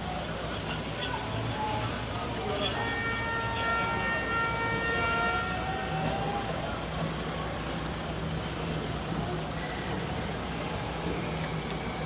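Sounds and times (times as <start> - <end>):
street and crowd noise: 0.0 - 12.0.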